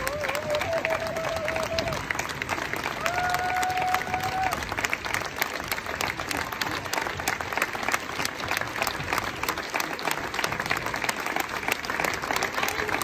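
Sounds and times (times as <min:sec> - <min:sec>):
audience applauding: 0:00.0 - 0:13.0
close sharp claps: 0:00.0 - 0:13.0.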